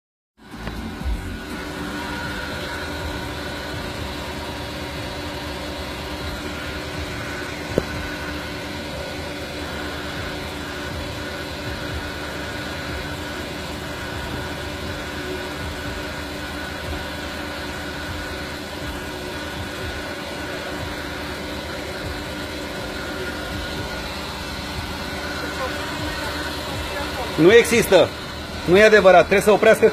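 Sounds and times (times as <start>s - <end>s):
fuel pump humming: 0.4s - 29.9s.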